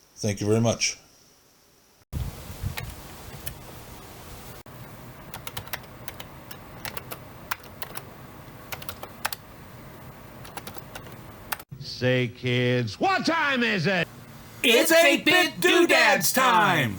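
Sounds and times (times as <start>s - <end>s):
low background noise: 0.0s - 16.9s.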